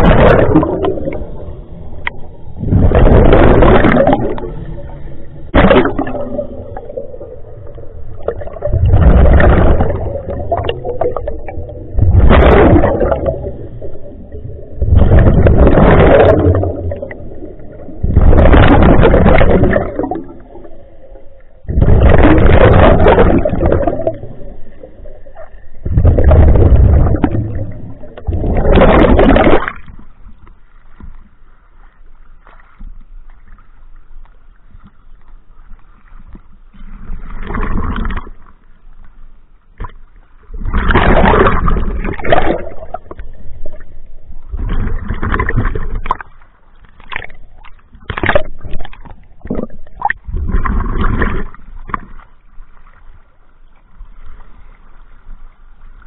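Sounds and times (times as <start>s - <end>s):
underwater exhaust bubbles rushing: 0.0s - 31.2s, 36.3s - 38.6s, 39.8s - 52.5s
waves splashing over camera: 0.0s - 34.0s, 34.6s - 38.7s, 39.8s - 56.0s.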